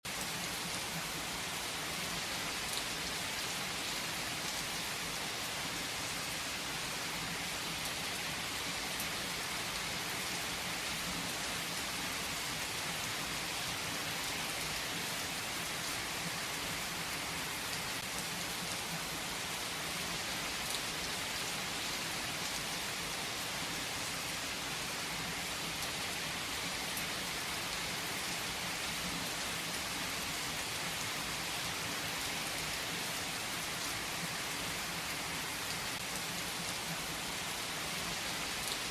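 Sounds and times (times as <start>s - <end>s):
steady rain hiss: 0.1s - 38.9s.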